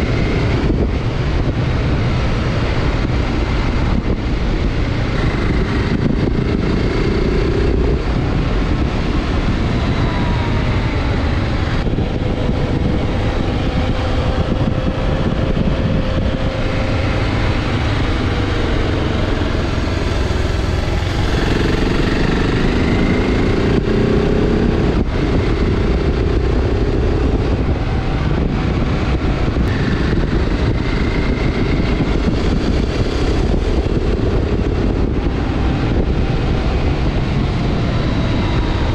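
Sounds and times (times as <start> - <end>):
motorcycle engine running: 0.0 - 38.9
wind buffeting on microphone: 0.0 - 38.9.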